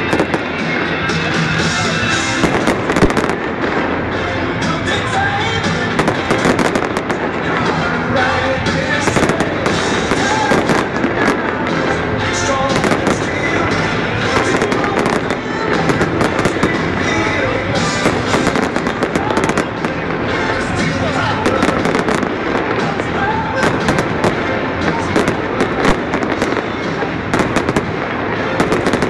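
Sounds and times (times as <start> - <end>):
fireworks bursting and crackling: 0.0 - 29.0
music playing: 0.0 - 29.0.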